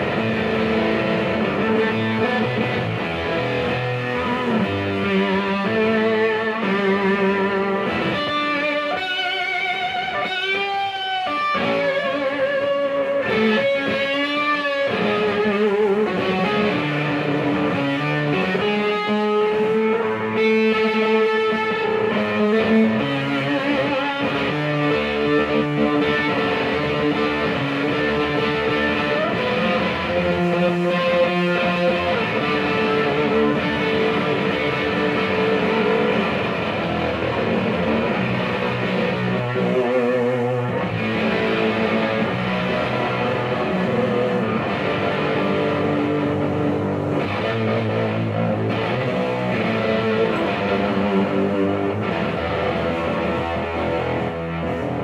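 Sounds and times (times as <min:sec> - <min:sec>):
bass guitar: 0:00.0 - 0:55.0
drums: 0:00.0 - 0:55.0
electric guitar lead: 0:00.0 - 0:55.0.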